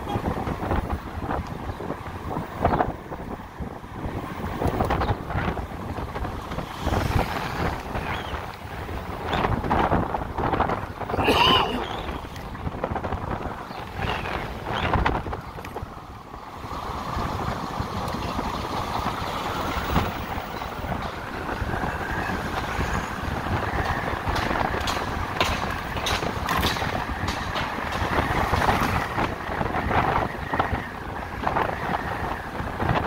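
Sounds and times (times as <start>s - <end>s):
wind and road noise: 0.0s - 33.0s.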